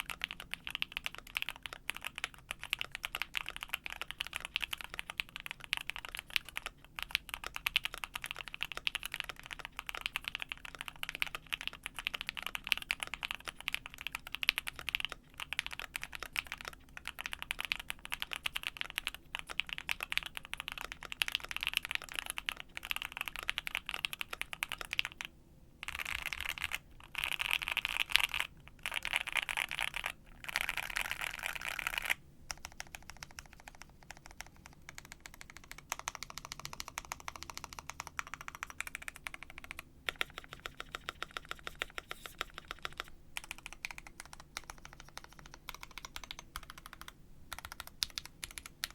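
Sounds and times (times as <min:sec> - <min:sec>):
fast typing on mechanical keyboard: 0:00.0 - 0:48.9.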